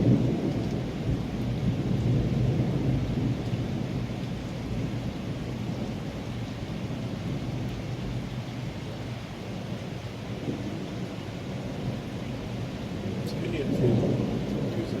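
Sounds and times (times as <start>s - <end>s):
low rumble of thunder: 0.0s - 15.0s
rain falling: 0.0s - 15.0s.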